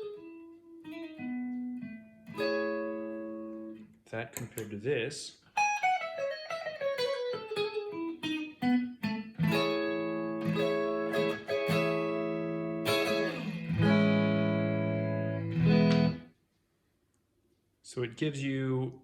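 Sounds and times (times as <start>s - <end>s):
clean electric guitar: 0.0s - 4.8s, 5.5s - 16.4s.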